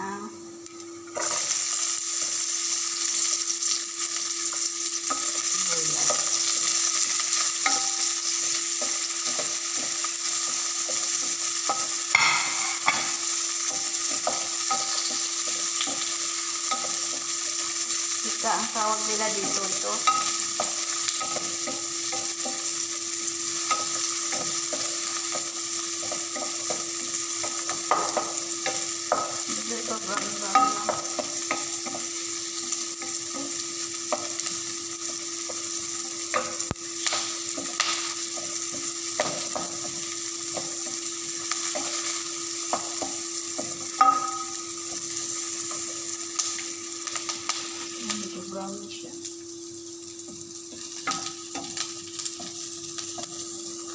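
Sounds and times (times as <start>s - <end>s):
garlic and onion sizzling in oil: 0.0s - 53.9s
utensil stirring and scraping pan: 1.1s - 48.8s, 49.9s - 53.9s.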